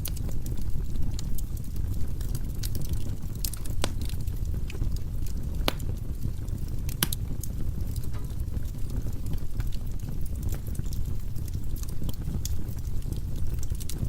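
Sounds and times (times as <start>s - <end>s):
firewood burning and crackling: 0.0s - 14.0s.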